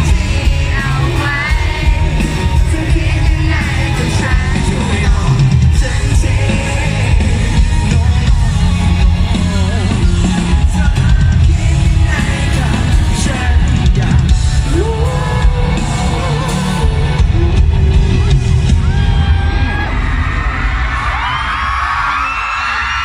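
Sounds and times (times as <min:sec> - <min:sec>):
man singing into microphone: 0:00.0 - 0:18.5
loud live band music: 0:00.0 - 0:21.3.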